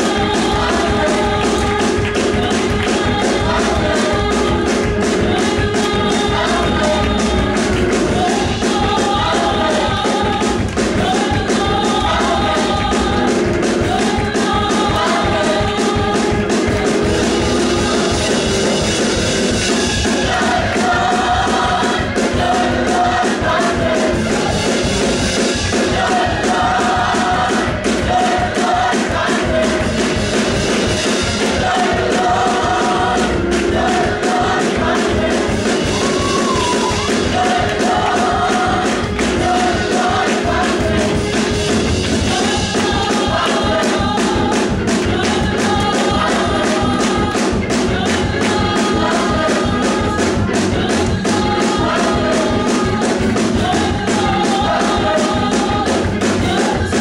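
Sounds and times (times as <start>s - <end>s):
gospel choir singing: 0.0s - 57.0s
instrumental accompaniment with beat: 0.0s - 57.0s.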